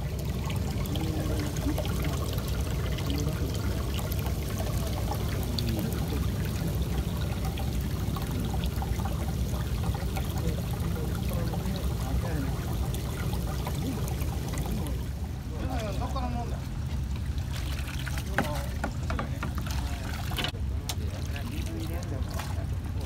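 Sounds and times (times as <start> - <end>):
water pouring and bubbling: 0.0 - 23.0.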